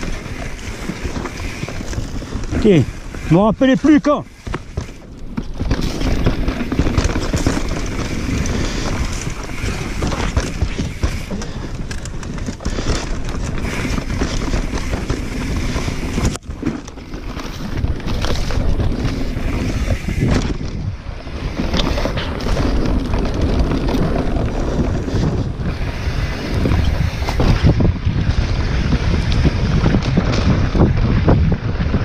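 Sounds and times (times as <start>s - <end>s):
bike rattling and knocking: 0.0s - 32.0s
tyres on loose dirt: 0.0s - 32.0s
wind buffeting microphone: 0.0s - 32.0s.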